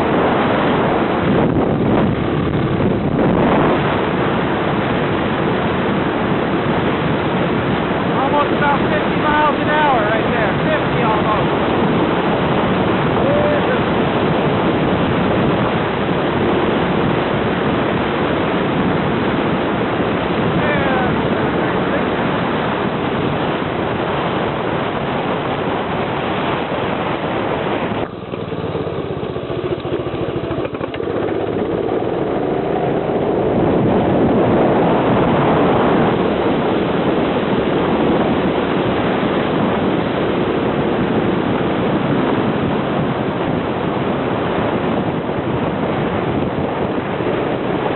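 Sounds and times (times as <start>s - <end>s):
go-kart engine running hard: 0.0s - 47.9s
wind rush on microphone: 0.0s - 47.9s.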